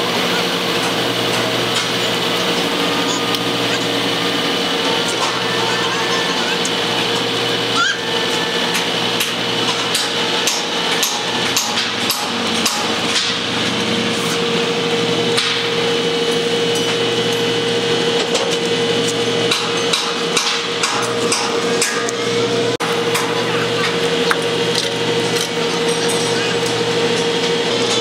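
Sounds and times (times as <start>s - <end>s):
machinery hum: 0.0s - 28.0s.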